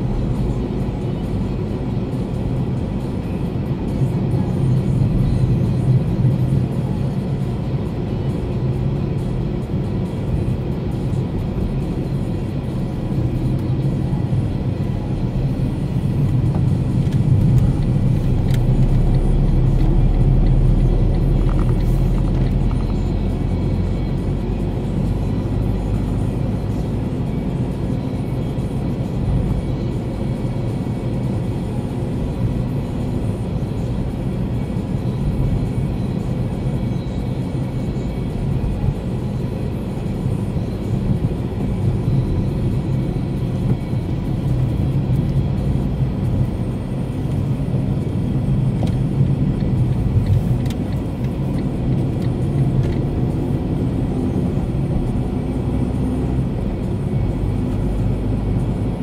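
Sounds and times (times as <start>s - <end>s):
car road noise from inside: 0.0s - 59.0s.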